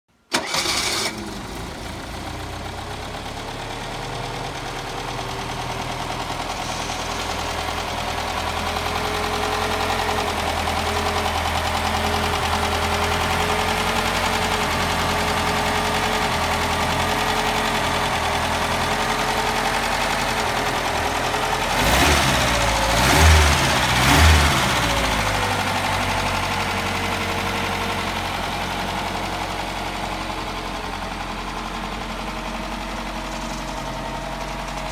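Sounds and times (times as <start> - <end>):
car engine idling and revving: 0.4 - 34.9.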